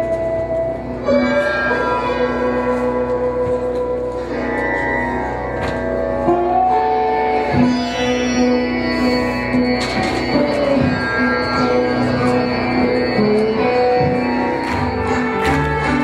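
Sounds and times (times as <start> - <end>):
held-note melody: 0.0 - 16.0
low drone: 0.0 - 16.0.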